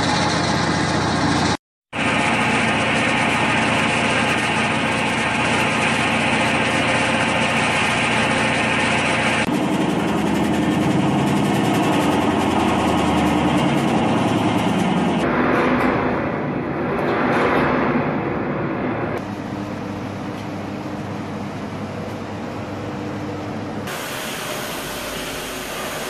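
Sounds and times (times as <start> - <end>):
low hum: 0.0 - 23.9.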